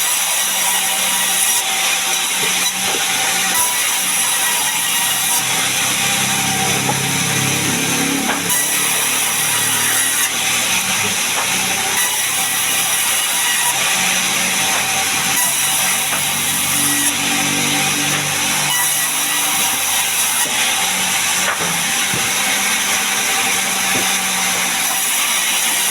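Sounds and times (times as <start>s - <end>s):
sawmill saw cutting wood: 0.0s - 25.9s.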